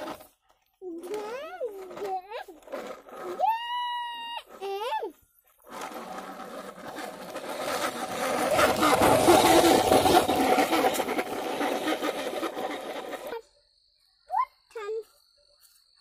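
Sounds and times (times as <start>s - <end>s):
toy car wheels grinding on sand: 0.0s - 13.6s.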